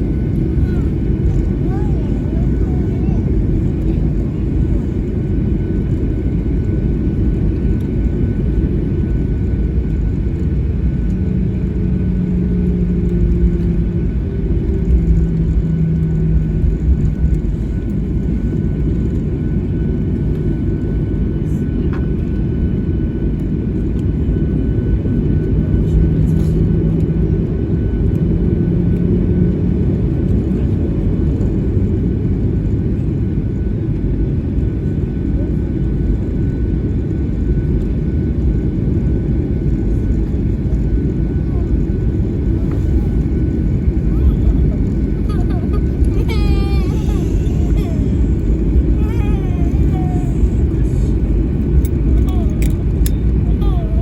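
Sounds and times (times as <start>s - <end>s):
low rumble of engines: 0.0s - 54.0s.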